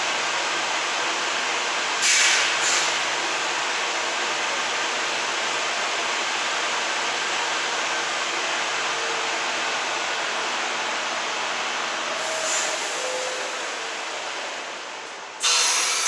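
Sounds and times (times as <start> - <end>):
idling train rushing hum: 0.0 - 16.0.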